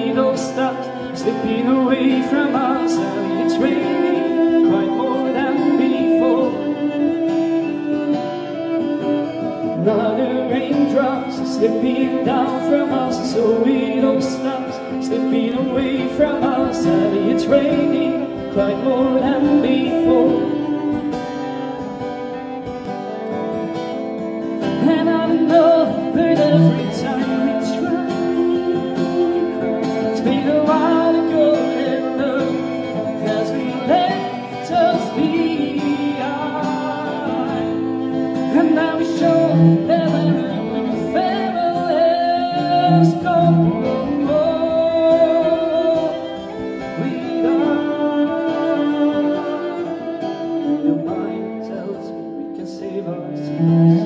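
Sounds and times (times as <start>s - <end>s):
man singing: 0.0s - 22.6s, 24.3s - 54.0s
acoustic guitar: 0.0s - 54.0s.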